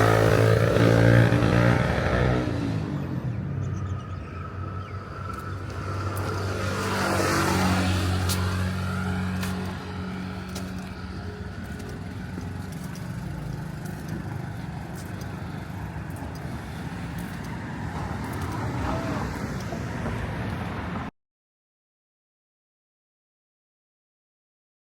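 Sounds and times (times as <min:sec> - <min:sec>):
steady engine hum: 0:00.0 - 0:21.1
vehicles passing: 0:00.0 - 0:21.1.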